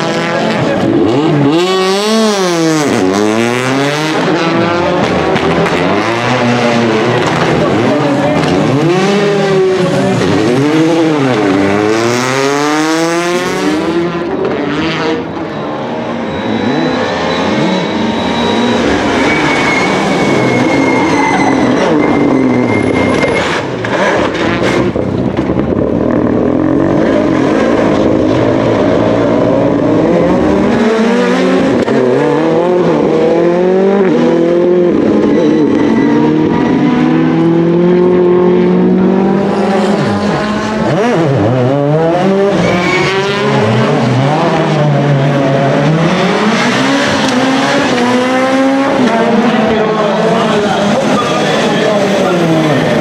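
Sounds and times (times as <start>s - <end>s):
rally car engines revving: 0.0s - 53.0s.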